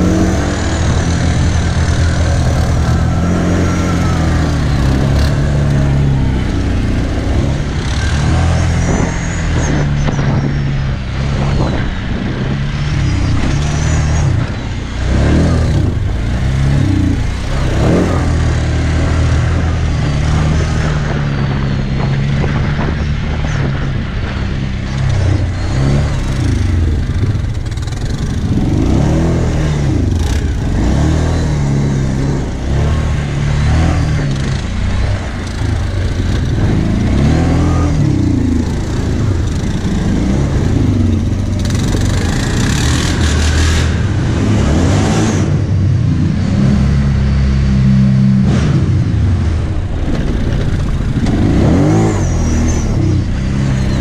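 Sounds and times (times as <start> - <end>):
atv engine revving under load: 0.0 - 54.0.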